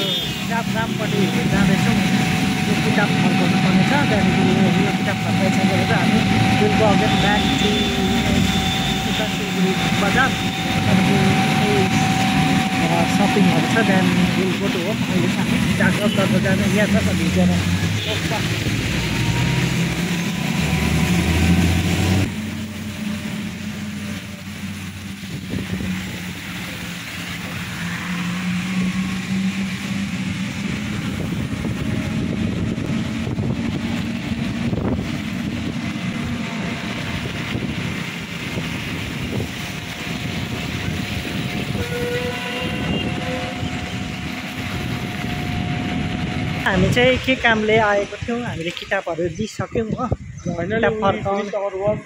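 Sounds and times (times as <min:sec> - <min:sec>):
vehicle engine running: 0:00.0 - 0:48.8
rain hiss: 0:00.0 - 0:52.0.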